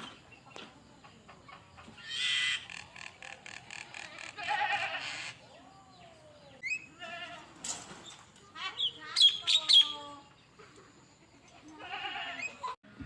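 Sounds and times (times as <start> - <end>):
songbird singing: 0.0 - 12.8.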